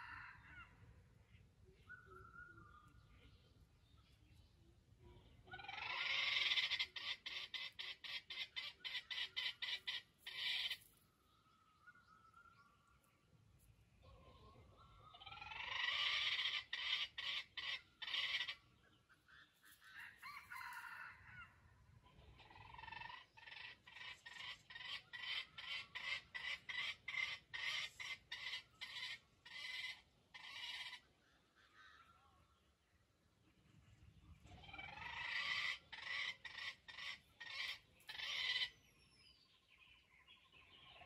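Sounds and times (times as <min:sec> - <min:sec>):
jungle chicken clucking calls: 0:00.0 - 0:41.0.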